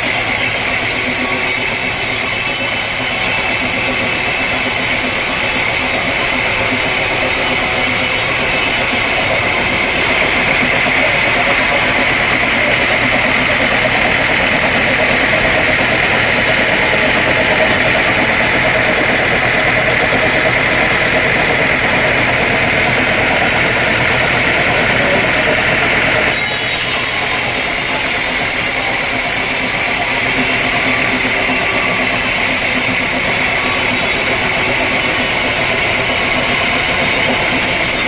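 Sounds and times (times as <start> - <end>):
sawmill machinery droning: 0.0 - 38.0.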